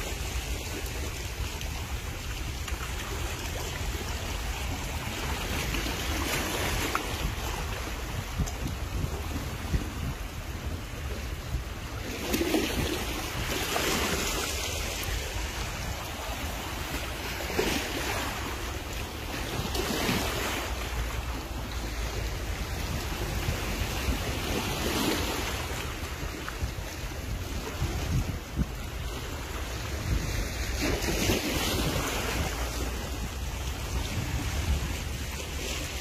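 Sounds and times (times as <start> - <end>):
waves breaking among rocks: 0.0 - 36.0
wind rumbling on microphone: 0.0 - 36.0.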